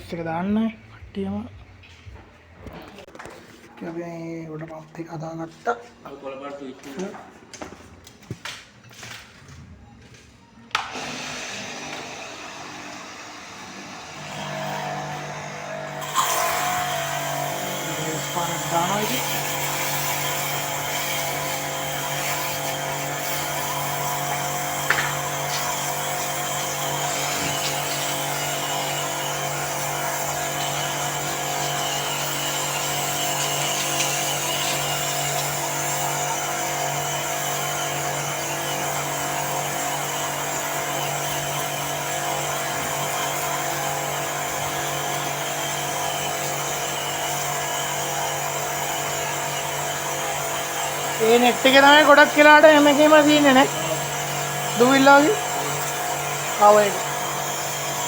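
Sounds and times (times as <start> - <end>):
pressure washer motor whine: 10.8 - 58.0.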